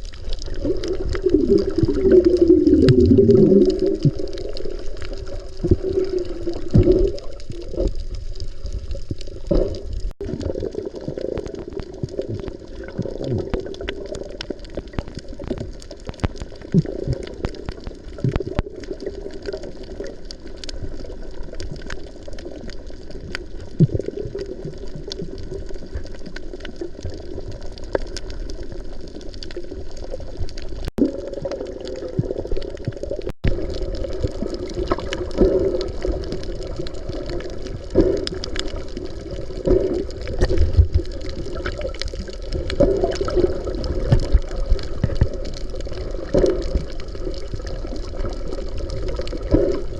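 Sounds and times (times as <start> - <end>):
muffled underwater churning and bubbling: 0.0 - 49.9
small clicks underwater: 0.0 - 49.9.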